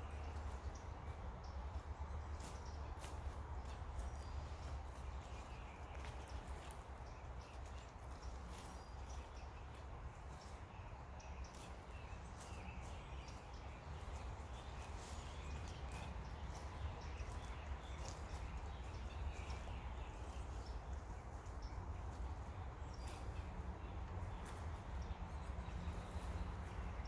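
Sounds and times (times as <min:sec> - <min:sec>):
dry twigs and leaves crackling: 0:00.0 - 0:27.0.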